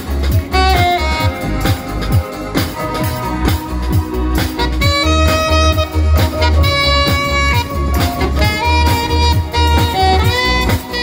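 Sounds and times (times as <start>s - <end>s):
bass: 0.0s - 11.0s
congas: 0.0s - 11.0s
drum kit: 0.0s - 11.0s
alto saxophone melody: 0.2s - 11.0s.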